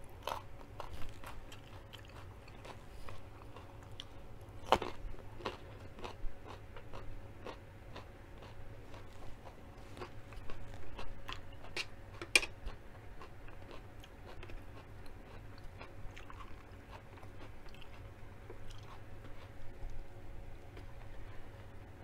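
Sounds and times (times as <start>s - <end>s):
person chewing crunchy food: 0.0s - 21.8s.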